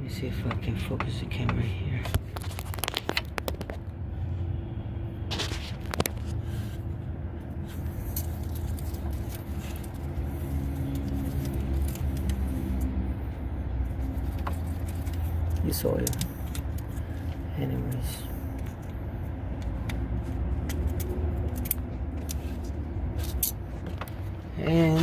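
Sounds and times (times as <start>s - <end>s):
vehicle engine idling: 3.7s - 25.0s.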